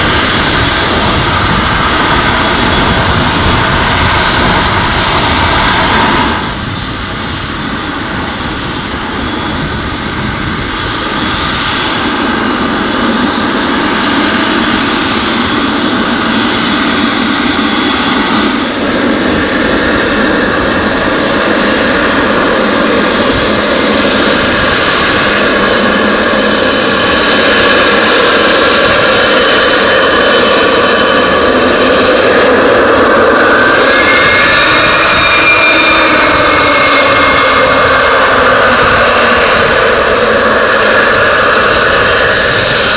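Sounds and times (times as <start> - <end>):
jet engines running: 0.0 - 42.9
rising engine whine: 0.0 - 42.9.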